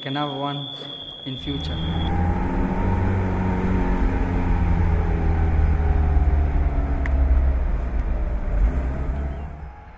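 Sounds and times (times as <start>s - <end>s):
car engine running: 1.4s - 9.9s.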